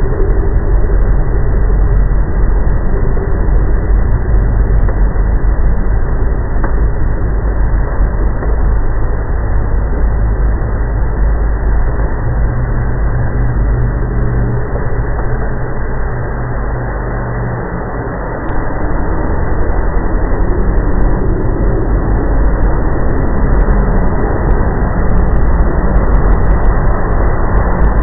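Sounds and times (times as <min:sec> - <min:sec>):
low rumbling drone: 0:00.0 - 0:28.0
steady low hum: 0:00.0 - 0:28.0.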